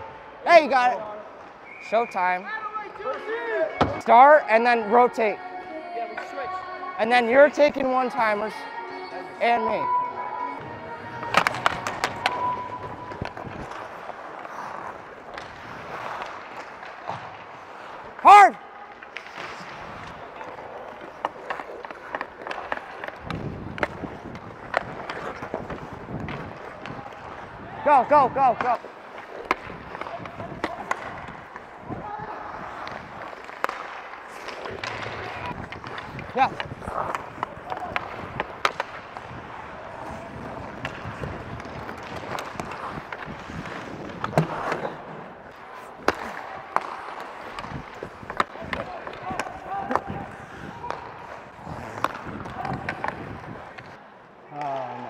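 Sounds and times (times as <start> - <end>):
sticks and puck clacking: 0.2 - 55.0
skate blades scraping ice: 9.4 - 55.0.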